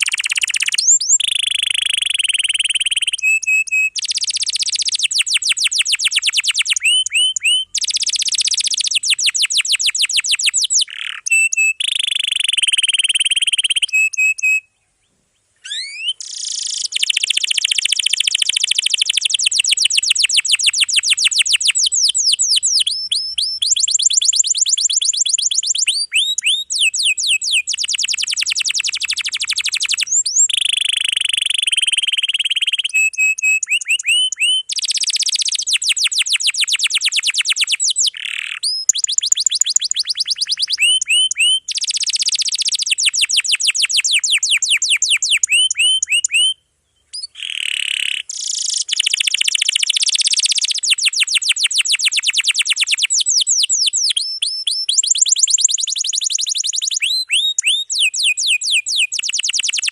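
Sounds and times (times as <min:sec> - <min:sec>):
canary singing trills: 0:00.0 - 0:15.0, 0:15.6 - 0:59.9.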